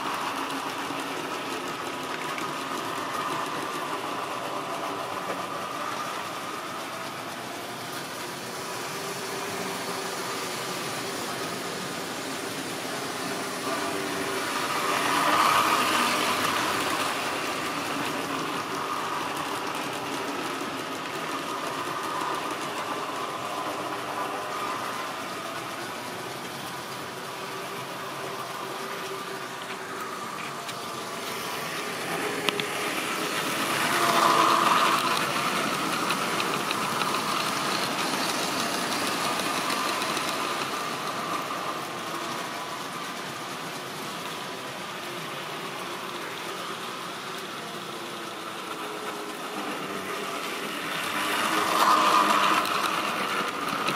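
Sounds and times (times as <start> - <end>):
model train motor whirr: 0.0 - 53.9
train wheel rumble: 0.0 - 53.9.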